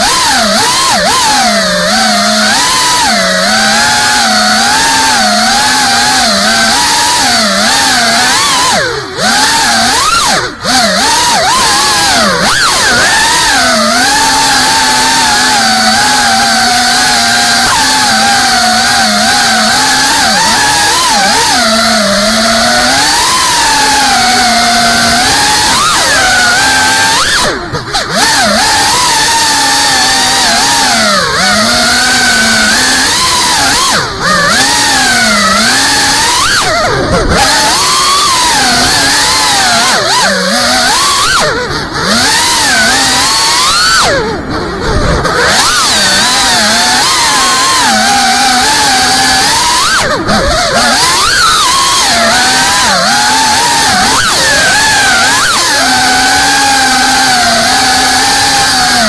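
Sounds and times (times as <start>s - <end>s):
drone motors buzzing: 0.0s - 59.0s.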